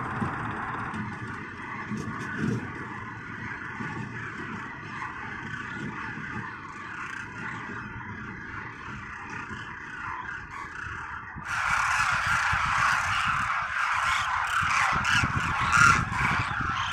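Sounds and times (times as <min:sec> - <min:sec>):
flock of cranes calling: 0:00.0 - 0:16.9.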